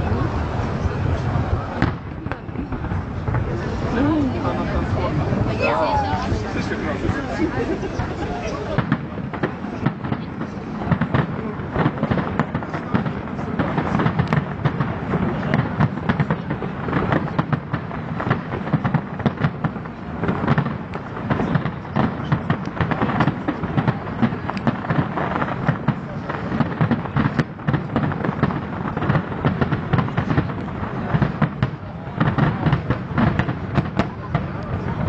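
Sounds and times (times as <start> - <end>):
fireworks exploding: 0.0 - 35.0.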